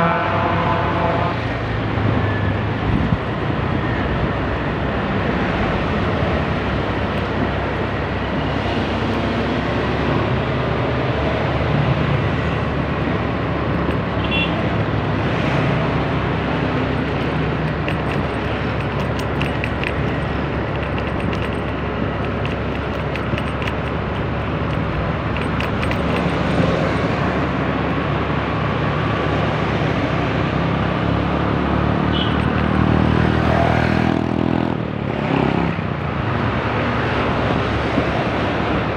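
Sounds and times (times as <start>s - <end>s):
wind and road noise: 0.0s - 38.9s
scooter engine hum: 2.6s - 38.9s.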